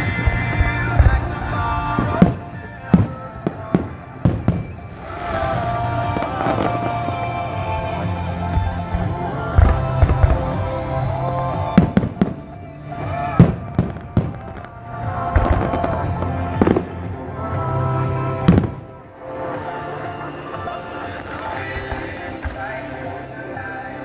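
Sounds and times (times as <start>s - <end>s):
fireworks bangs: 0.0s - 23.8s
music playing: 0.0s - 24.0s.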